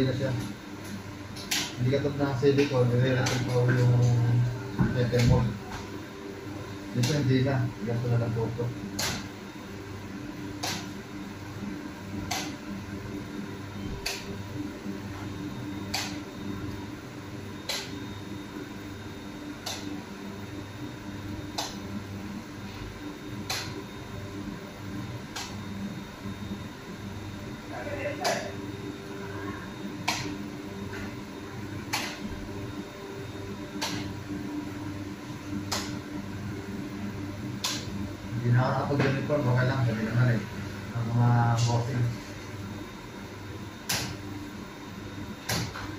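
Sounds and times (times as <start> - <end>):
low hum of a fan: 0.0 - 45.9.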